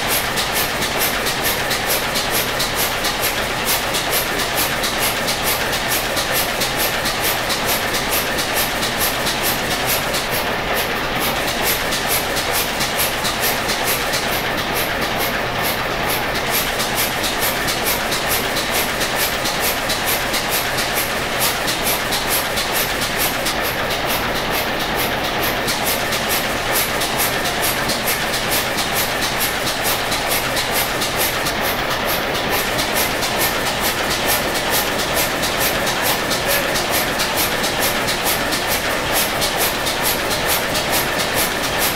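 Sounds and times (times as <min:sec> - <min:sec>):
diesel engine running rhythmically: 0:00.0 - 0:41.9.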